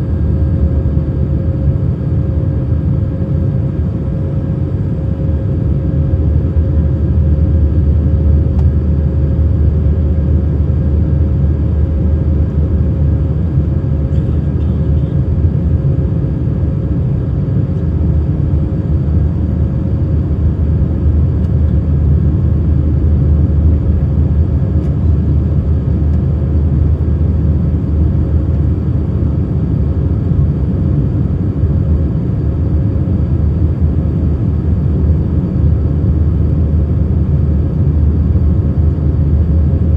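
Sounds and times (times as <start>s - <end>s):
jet engines and airflow in cabin: 0.0s - 39.9s.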